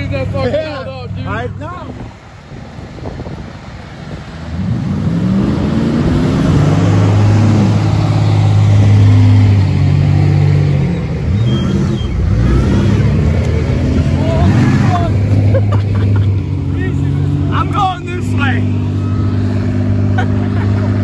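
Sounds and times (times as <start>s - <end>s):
pickup truck engines revving: 0.0s - 21.0s.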